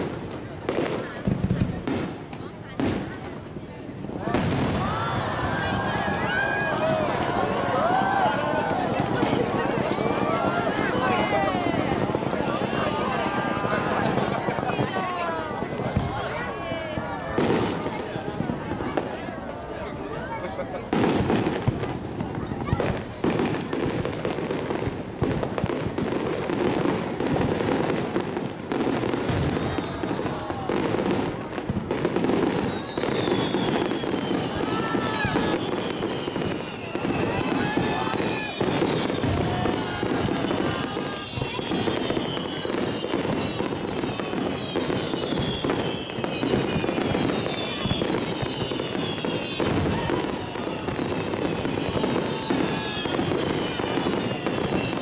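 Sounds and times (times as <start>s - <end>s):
fireworks crackling and banging: 0.0s - 55.0s.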